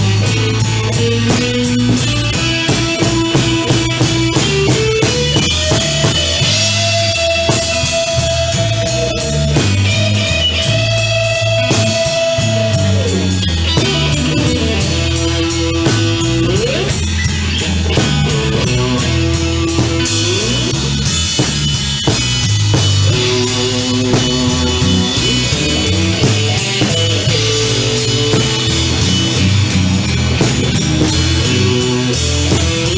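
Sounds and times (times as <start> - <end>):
bass line: 0.0 - 32.9
electric guitar bending notes: 0.0 - 32.9
steady drum beat: 0.0 - 32.9.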